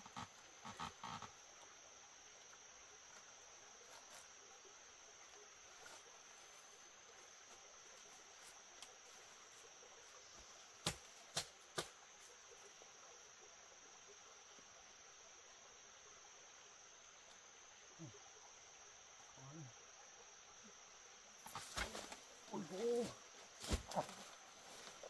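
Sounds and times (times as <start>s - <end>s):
insect chirring: 0.0s - 25.0s.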